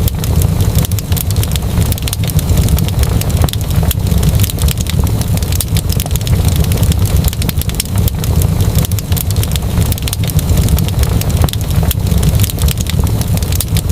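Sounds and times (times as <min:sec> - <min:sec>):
fire crackling: 0:00.0 - 0:13.9.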